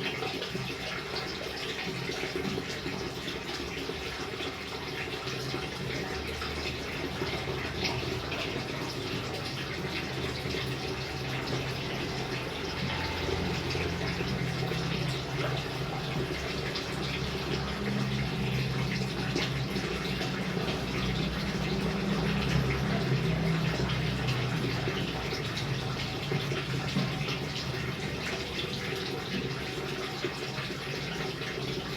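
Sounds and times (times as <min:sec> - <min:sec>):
rain water splashing: 0:00.0 - 0:31.9.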